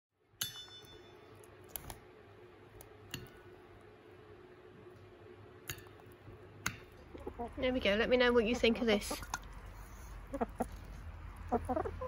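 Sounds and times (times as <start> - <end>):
faint steady hum: 0.2 - 12.0.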